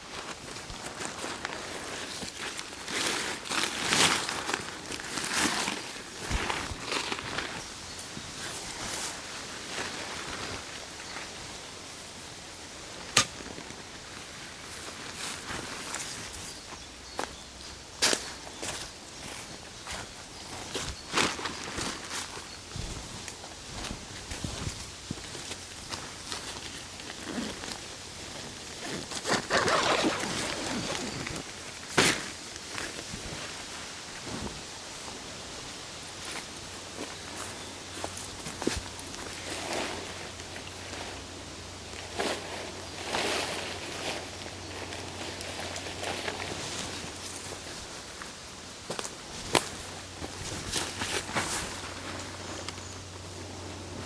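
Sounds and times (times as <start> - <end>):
tent fabric rustling: 0.1 - 11.6, 18.4 - 54.0.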